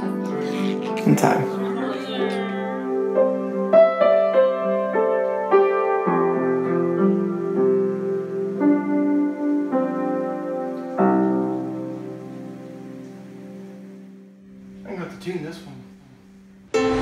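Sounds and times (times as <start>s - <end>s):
upright piano melody: 0.0s - 17.0s.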